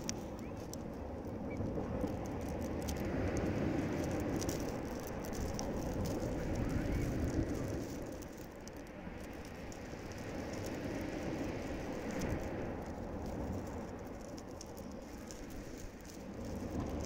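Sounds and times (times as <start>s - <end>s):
pebbles rattling: 0.0s - 17.0s.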